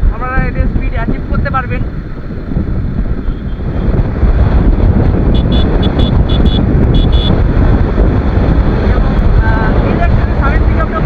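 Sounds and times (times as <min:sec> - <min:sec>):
motorcycle riding at speed: 0:00.0 - 0:11.0
wind buffeting microphone: 0:00.0 - 0:11.0.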